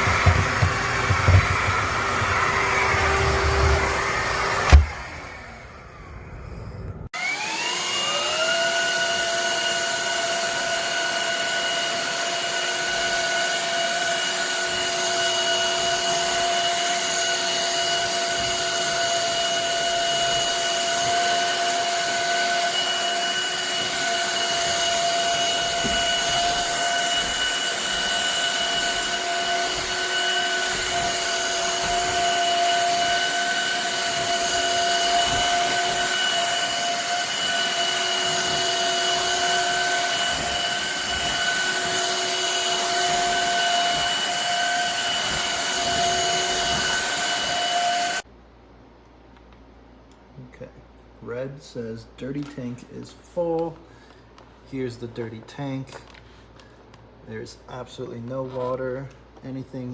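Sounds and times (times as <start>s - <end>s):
vacuum motor whine: 0.0s - 48.2s.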